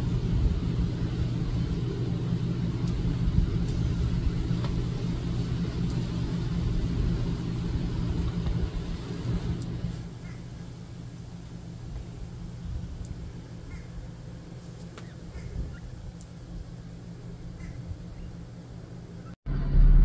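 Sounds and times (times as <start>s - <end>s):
low droning rumble: 0.0s - 20.0s.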